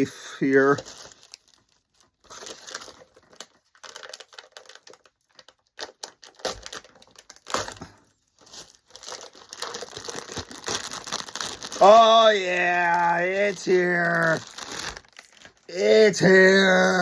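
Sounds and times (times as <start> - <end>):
packaging crinkling and tearing: 0.4 - 17.0.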